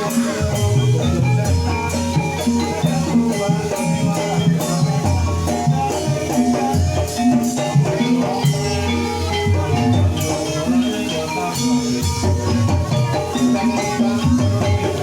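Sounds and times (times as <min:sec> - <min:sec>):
hand drum beats: 0:00.0 - 0:15.0
high jingling rattle: 0:00.0 - 0:15.0
pitched percussion melody: 0:00.0 - 0:15.0.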